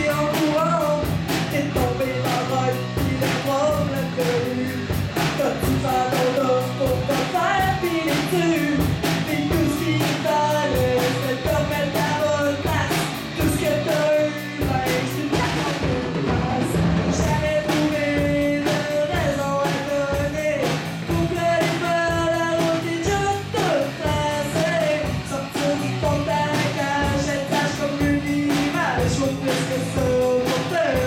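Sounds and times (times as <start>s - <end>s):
person singing: 0.0s - 31.0s
rock guitar: 0.0s - 31.0s
steady drum beat: 0.0s - 31.0s.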